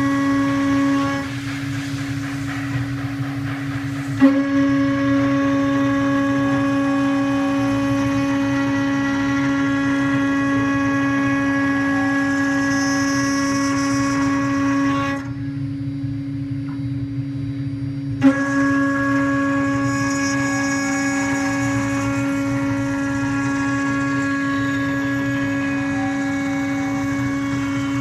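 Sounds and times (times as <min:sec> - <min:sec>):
cnc spindle whine: 0:00.0 - 0:28.0.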